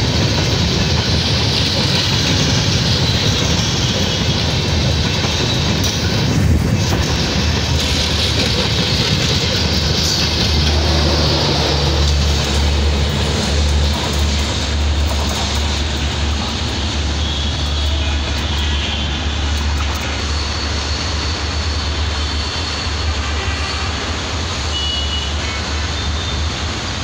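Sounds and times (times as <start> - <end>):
passenger train rumbling: 0.0 - 27.0.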